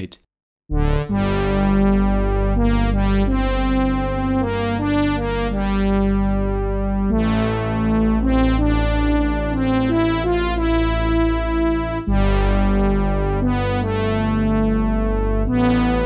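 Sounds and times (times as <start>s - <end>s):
steady low synth bass: 0.7s - 16.0s
synth brass chords: 0.7s - 16.0s.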